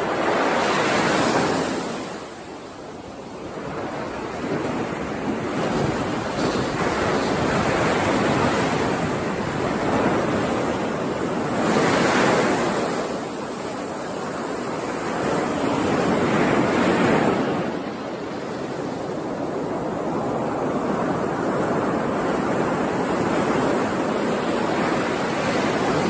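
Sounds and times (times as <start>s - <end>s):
waves breaking on shore: 0.0s - 26.0s.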